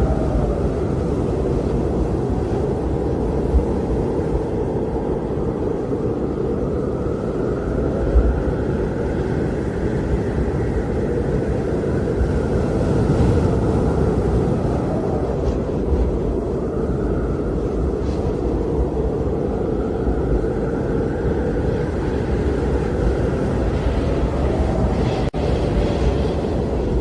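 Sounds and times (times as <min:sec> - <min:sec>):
blizzard wind rushing: 0:00.0 - 0:27.0
wind whistling: 0:00.0 - 0:27.0.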